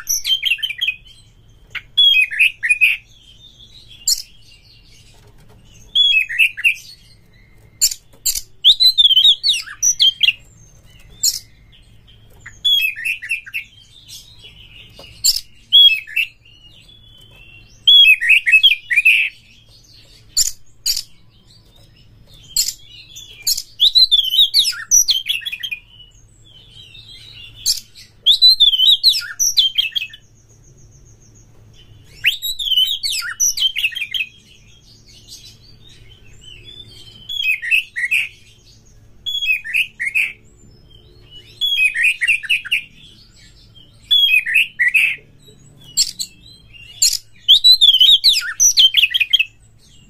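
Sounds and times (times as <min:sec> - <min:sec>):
bird singing chirps and whistles: 0:00.0 - 0:50.0.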